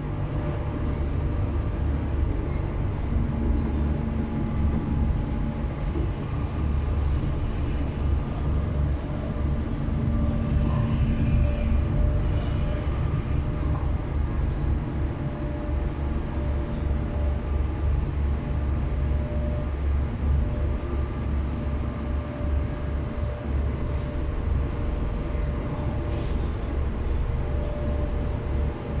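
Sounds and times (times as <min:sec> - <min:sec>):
faint hum tones: 0:00.0 - 0:29.0
ship engines rumbling: 0:00.0 - 0:29.0.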